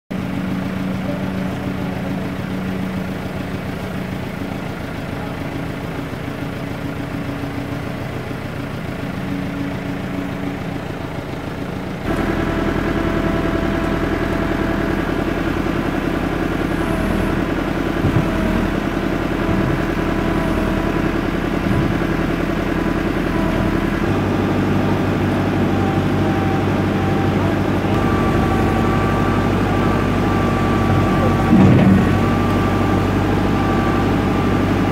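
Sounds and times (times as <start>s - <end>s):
feed mixer wagon engine hum: 0.1s - 34.9s.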